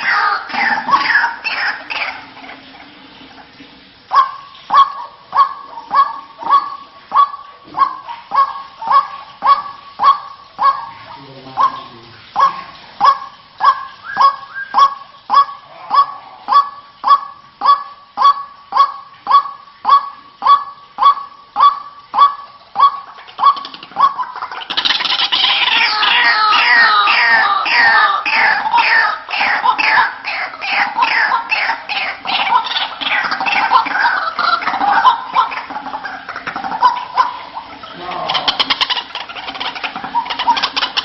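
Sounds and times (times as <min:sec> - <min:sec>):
bird honking calls: 0:00.0 - 0:02.9, 0:04.1 - 0:41.0.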